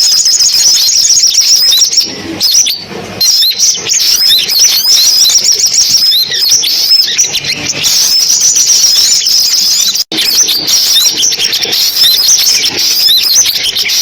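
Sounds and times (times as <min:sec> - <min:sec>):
high bird trill: 0:00.0 - 0:14.0
sunbirds chirping: 0:00.0 - 0:14.0.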